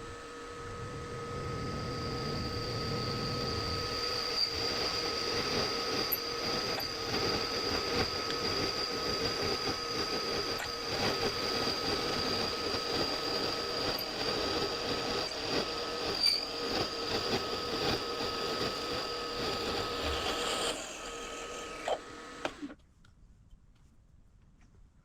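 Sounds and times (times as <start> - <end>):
milling machine whining: 0.0 - 22.8.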